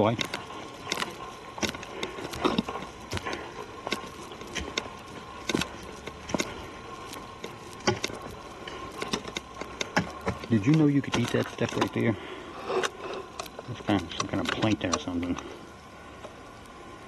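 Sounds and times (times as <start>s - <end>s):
footsteps on forest trail: 0.0s - 15.6s
background hiss: 0.0s - 17.0s.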